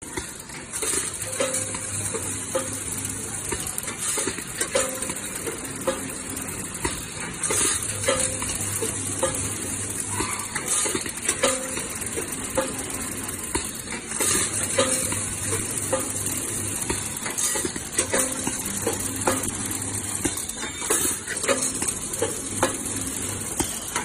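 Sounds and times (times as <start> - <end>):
machine steady hiss: 0.1 - 24.0.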